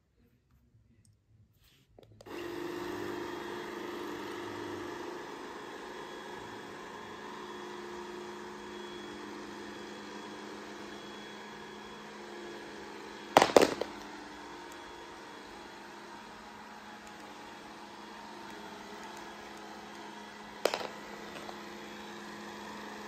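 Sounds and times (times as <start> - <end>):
robot vacuum motor hum: 2.2 - 23.0.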